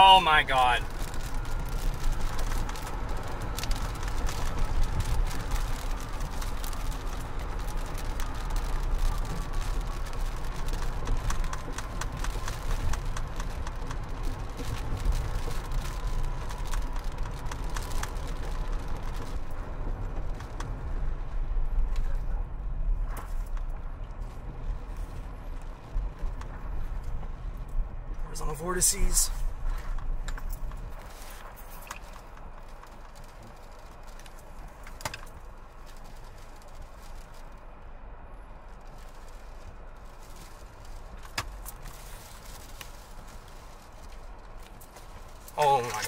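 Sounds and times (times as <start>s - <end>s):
raindrops ticking on windshield: 0.0s - 46.0s
wind buffeting a car: 0.0s - 46.0s.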